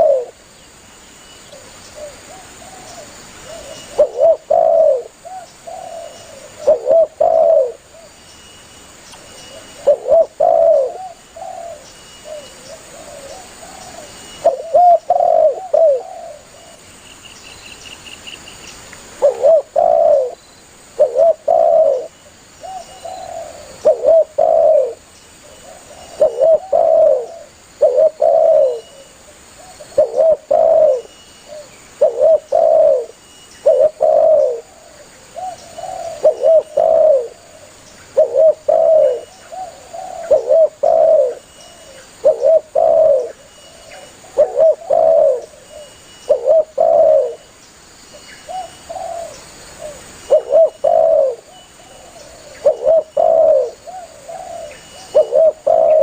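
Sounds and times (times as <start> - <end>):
dove cooing: 0.0 - 0.4, 1.6 - 8.2, 9.5 - 16.8, 19.2 - 47.4, 48.4 - 56.0.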